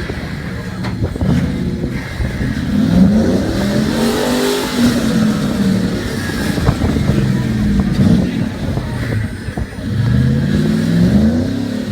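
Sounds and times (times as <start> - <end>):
truck engine revving: 0.0 - 11.9.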